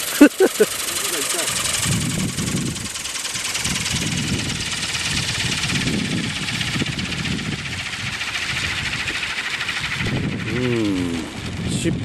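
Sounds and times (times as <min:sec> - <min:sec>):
model helicopter rotor whine: 0:00.0 - 0:12.0
low rumble: 0:01.5 - 0:12.0.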